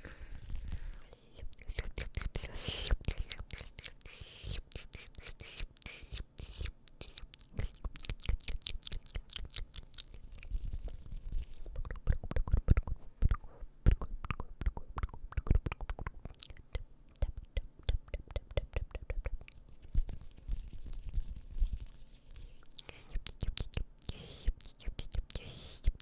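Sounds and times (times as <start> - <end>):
wet mouth clicks and smacks: 1.4 - 26.0.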